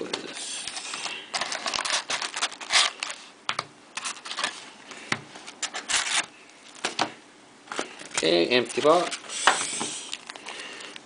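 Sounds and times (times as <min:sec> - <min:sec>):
card packs and cardboard box handled: 0:00.0 - 0:04.7, 0:05.4 - 0:07.1, 0:07.7 - 0:10.5.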